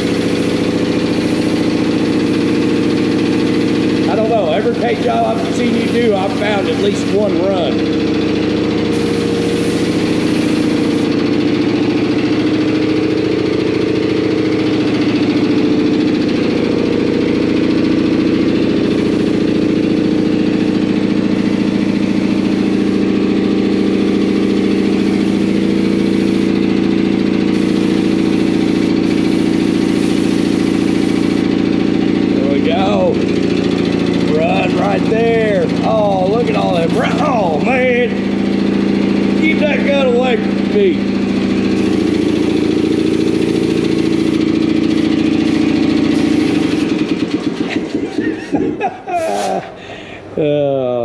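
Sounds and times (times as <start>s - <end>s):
spray gun hissing: 0.0s - 48.0s, 49.0s - 49.8s
air compressor running: 0.0s - 51.0s.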